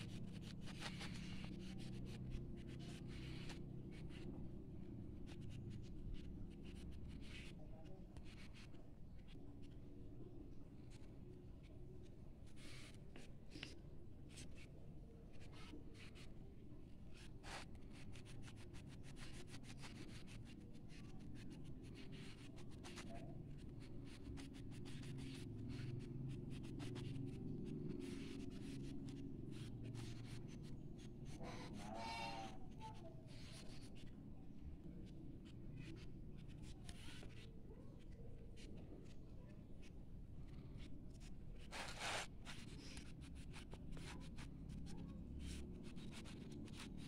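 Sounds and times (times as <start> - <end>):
crayon scratching on paper: 0.0 - 9.9, 12.0 - 14.7, 15.4 - 16.4, 17.1 - 47.0.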